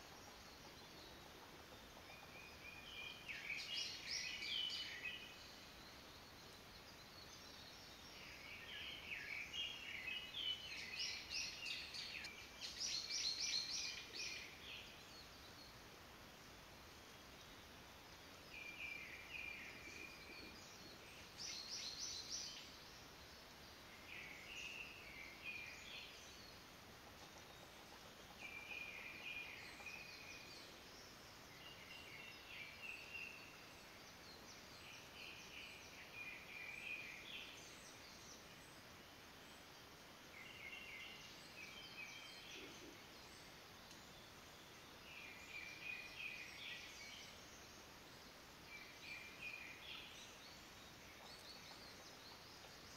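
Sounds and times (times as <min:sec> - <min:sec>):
woodland background hiss: 0:00.0 - 0:52.9.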